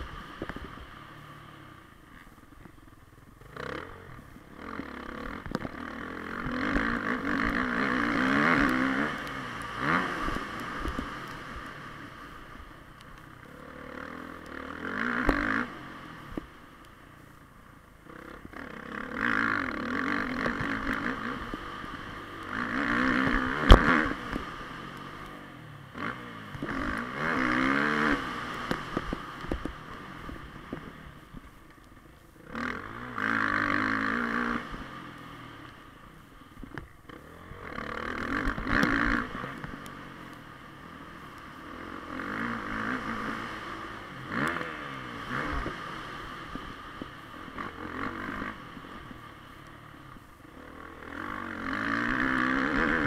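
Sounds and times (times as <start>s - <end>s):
dirt bike engine revving: 3.4s - 12.6s, 13.4s - 16.4s, 18.0s - 25.3s, 25.9s - 30.9s, 32.4s - 35.5s, 36.9s - 49.6s, 50.4s - 53.0s.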